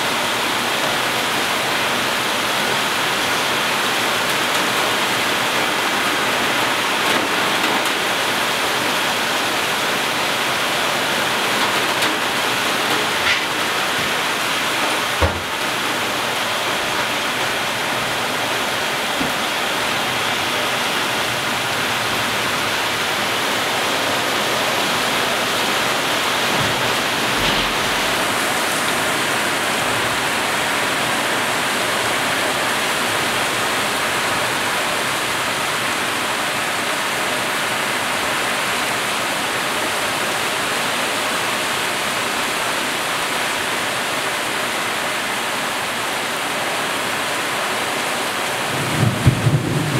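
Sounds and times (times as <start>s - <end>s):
heavy rain hiss: 0.0s - 49.9s.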